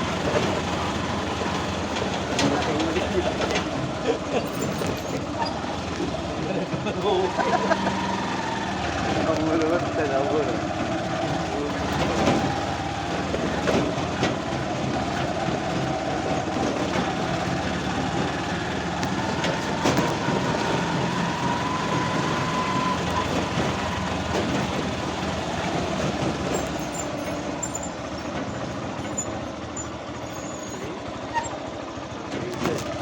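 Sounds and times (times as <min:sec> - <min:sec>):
vehicle running and rumbling: 0:00.0 - 0:33.0.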